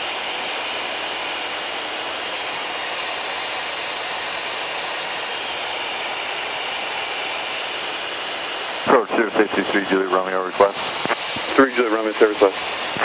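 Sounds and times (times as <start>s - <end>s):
aircraft cabin engine and airflow hiss: 0.0s - 13.0s.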